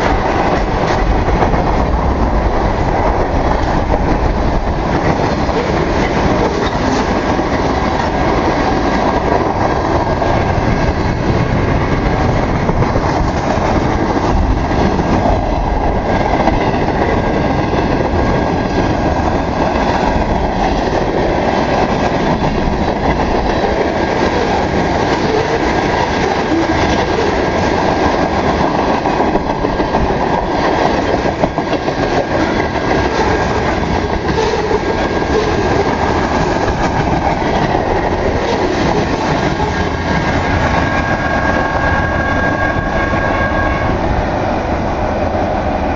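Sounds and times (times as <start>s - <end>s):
train wheels clacking on rails: 0.0s - 45.9s.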